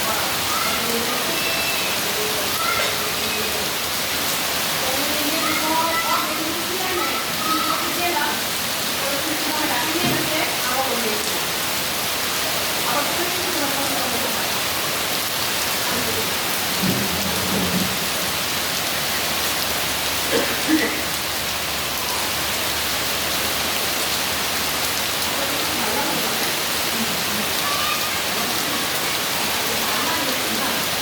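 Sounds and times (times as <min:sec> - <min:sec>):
heavy rain: 0:00.0 - 0:31.0.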